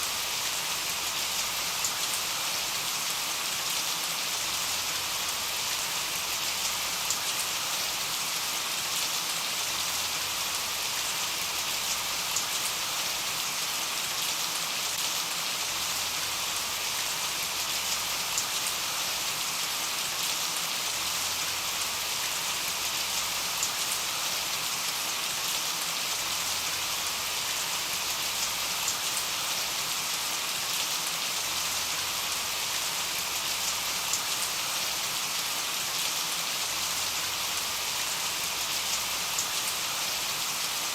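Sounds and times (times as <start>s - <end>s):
rain hissing: 0.0s - 40.9s.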